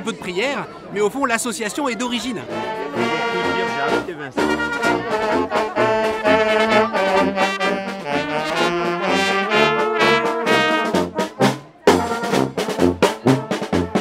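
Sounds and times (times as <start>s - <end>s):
marching brass band playing: 2.4s - 14.0s.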